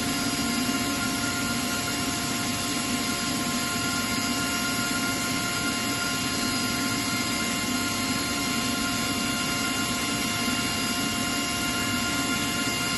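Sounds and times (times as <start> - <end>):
air compressor running: 0.0 - 12.9.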